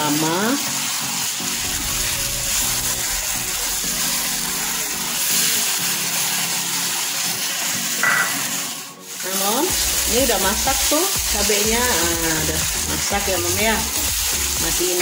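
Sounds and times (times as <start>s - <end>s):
paste sizzling in oil: 0.0s - 15.0s
spatula stirring: 0.1s - 15.0s.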